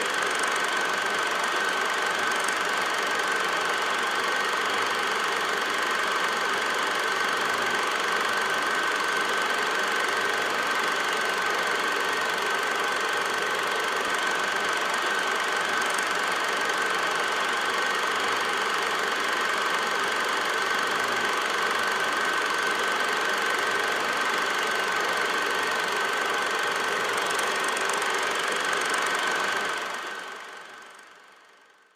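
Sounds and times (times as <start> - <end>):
film projector whirring: 0.0 - 31.9.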